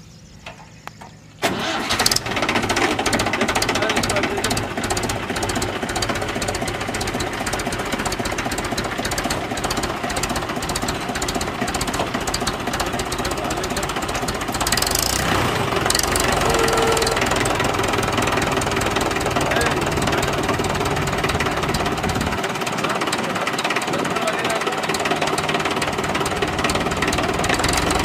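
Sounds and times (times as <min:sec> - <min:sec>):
tractor diesel engine knocking: 0:01.4 - 0:28.0.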